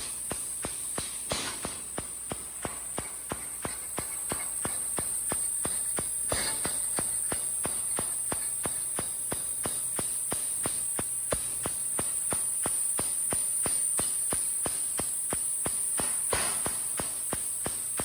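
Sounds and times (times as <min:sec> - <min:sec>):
sharp ticks: 0:00.0 - 0:18.0
welding arc hissing: 0:00.0 - 0:18.0.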